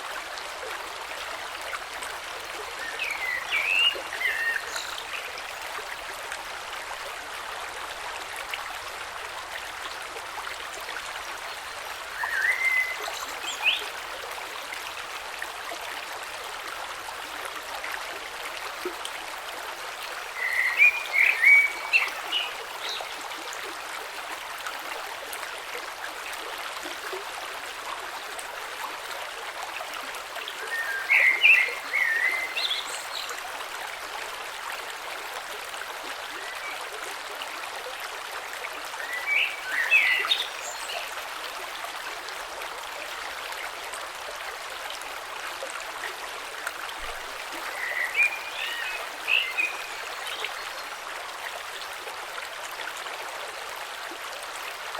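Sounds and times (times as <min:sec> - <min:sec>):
creek water flowing: 0:00.0 - 0:54.9.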